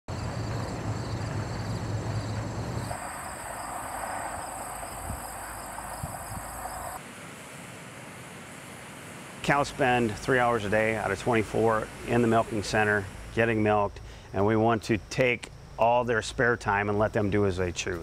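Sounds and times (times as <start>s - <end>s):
insects chirring: 0.1s - 18.0s.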